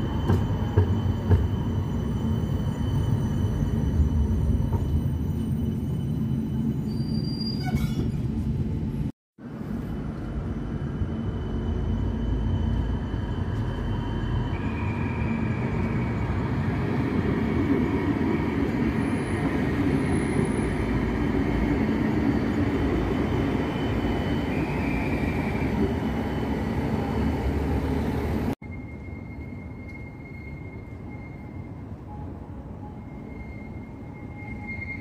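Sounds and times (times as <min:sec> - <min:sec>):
tram rolling rumble: 0:00.0 - 0:35.0.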